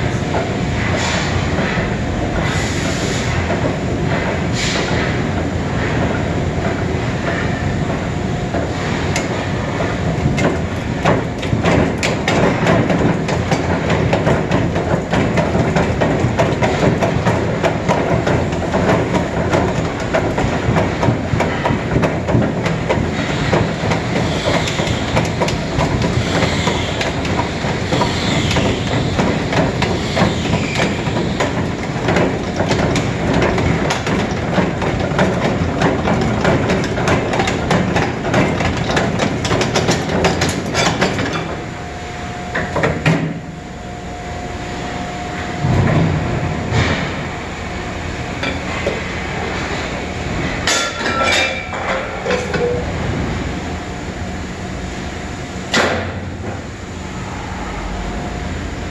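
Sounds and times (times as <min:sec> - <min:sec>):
machine noise with thin whine: 0:00.0 - 0:58.9.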